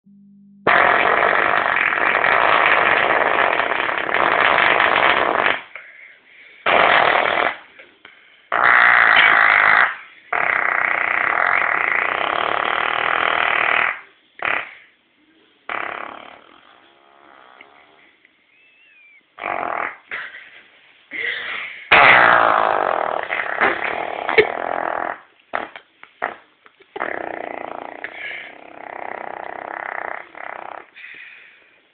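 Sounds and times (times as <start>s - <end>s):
fart noises: 0.7s - 5.9s, 6.6s - 7.9s, 8.5s - 15.0s, 15.7s - 20.6s, 21.2s - 31.2s.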